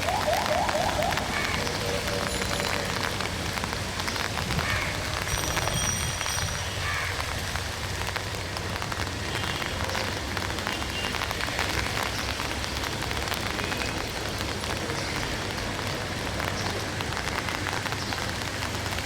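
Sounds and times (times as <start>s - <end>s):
rain pattering and splashing: 0.0s - 19.0s.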